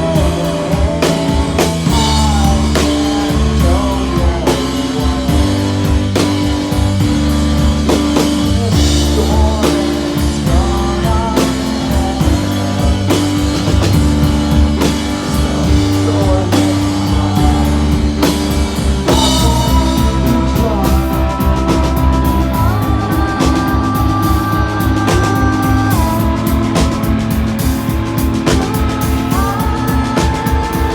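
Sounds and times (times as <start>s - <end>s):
distorted electric guitars: 0.0s - 30.9s
drum kit beat: 0.0s - 30.9s
heavy bass: 0.0s - 30.9s.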